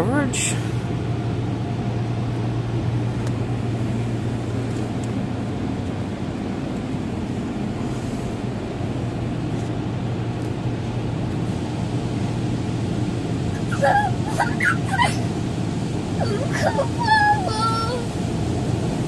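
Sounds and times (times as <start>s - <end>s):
car wash low hum: 0.0s - 19.0s.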